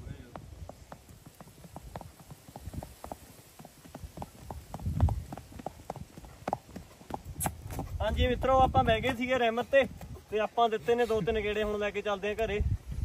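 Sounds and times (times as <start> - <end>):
horse hooves trotting on dirt: 0.0 - 12.6.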